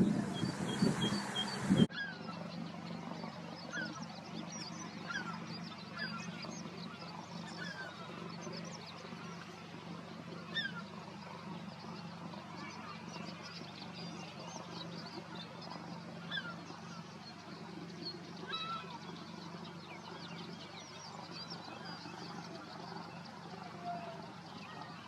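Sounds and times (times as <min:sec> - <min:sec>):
birds chirping: 0:00.0 - 0:25.0
steady low hum: 0:00.0 - 0:25.0.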